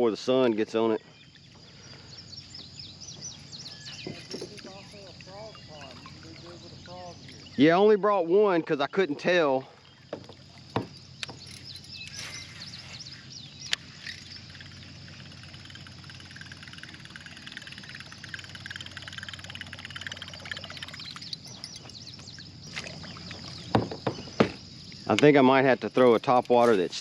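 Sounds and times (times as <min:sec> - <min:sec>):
birds chirping: 0:00.0 - 0:27.0
frogs calling: 0:00.0 - 0:27.0.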